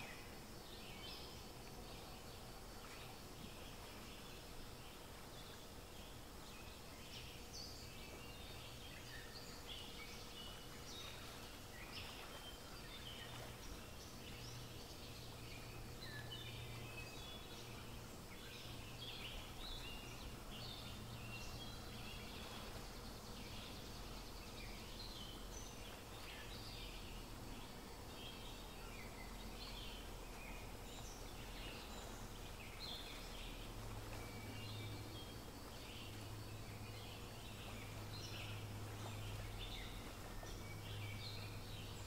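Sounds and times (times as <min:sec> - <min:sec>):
background hiss and low hum: 0:00.0 - 0:42.0
birds chirping: 0:00.0 - 0:42.0.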